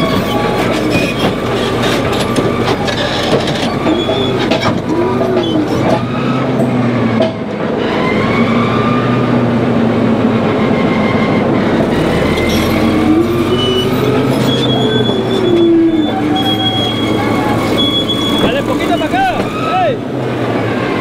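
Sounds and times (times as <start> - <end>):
steel tracks grinding and squealing: 0.0 - 9.6, 10.4 - 21.0
bulldozer diesel engine working: 0.0 - 21.0.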